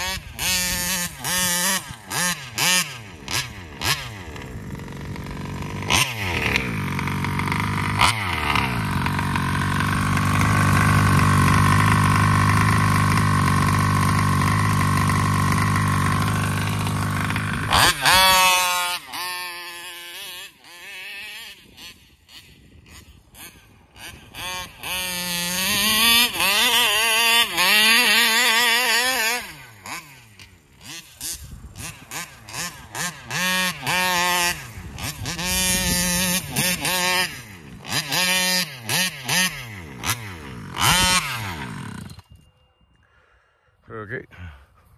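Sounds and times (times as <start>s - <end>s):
two-stroke rc car engine revving: 0.0s - 42.4s.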